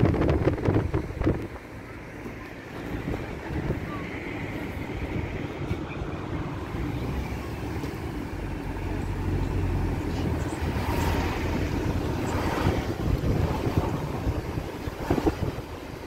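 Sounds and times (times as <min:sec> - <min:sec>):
car interior road and engine rumble: 0:00.0 - 0:16.0.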